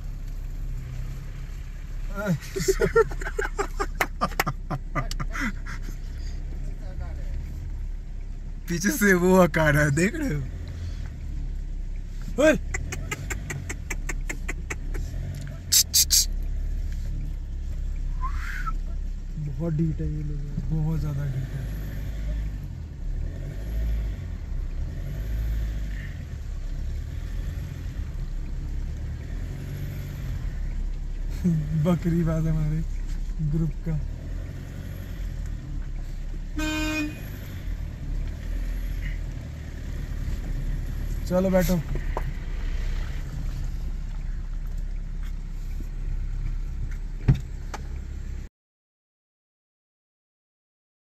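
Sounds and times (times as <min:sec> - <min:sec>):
car engine running at low revs: 0:00.0 - 0:48.5.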